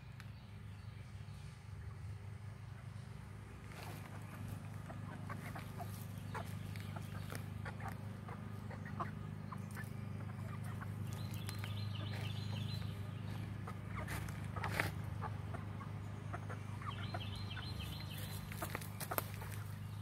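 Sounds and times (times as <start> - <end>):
steady low hum: 0.0 - 20.0
hens clucking: 2.6 - 20.0.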